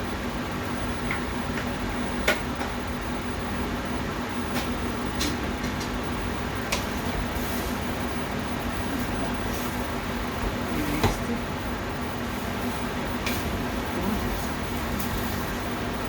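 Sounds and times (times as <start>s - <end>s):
kitchen appliance humming: 0.0s - 16.0s.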